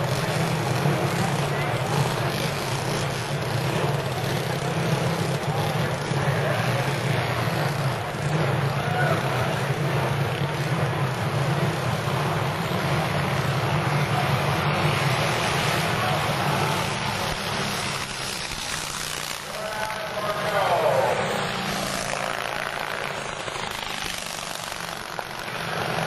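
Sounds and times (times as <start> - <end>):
motorcycle engines droning: 0.0 - 26.0.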